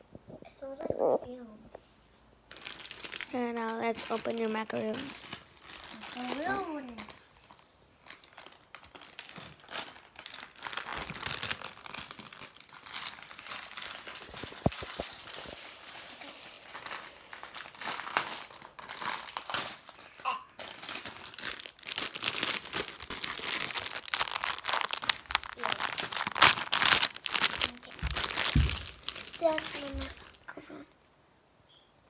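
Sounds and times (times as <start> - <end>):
plastic packaging crinkling: 2.5 - 30.5.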